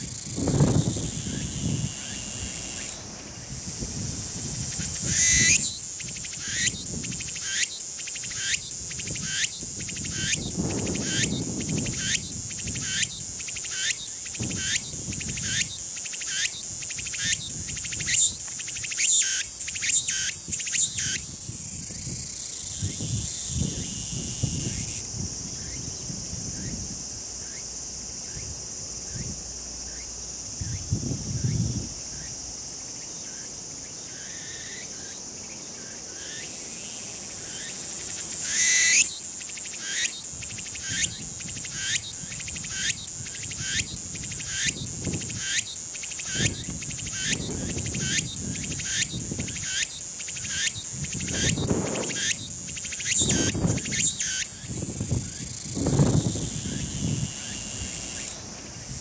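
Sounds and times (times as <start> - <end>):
cicada song: 0.0 - 59.0.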